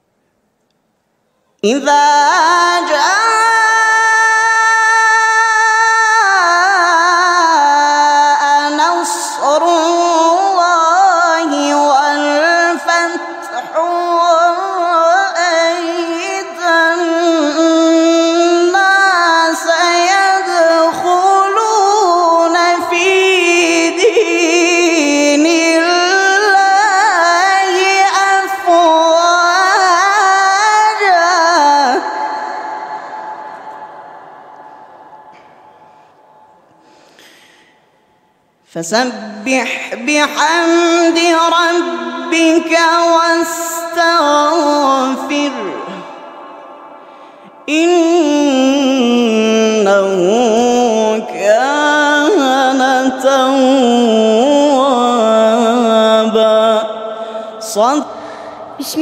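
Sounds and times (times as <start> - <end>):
person reciting in a held high note: 1.3 - 37.0, 38.7 - 59.0.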